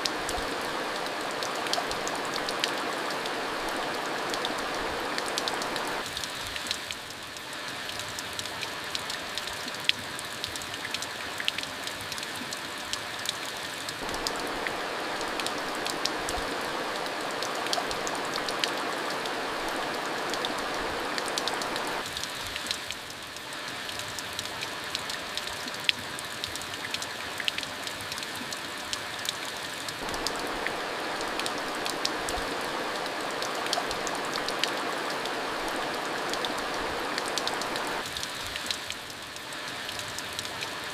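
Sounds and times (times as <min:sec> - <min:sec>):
rain drops on hard surface: 0:00.0 - 0:40.9
steady rain hiss: 0:00.0 - 0:40.9.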